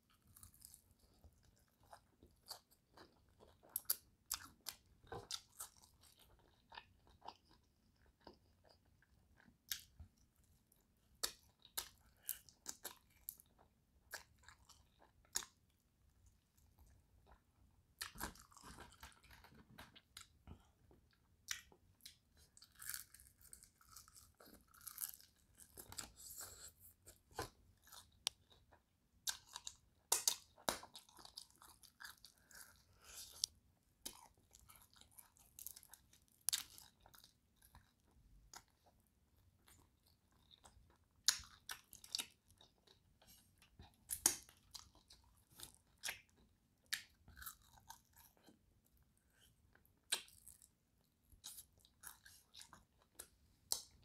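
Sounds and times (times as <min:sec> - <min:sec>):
chewing crispy chicken wings: 0:00.1 - 0:54.0.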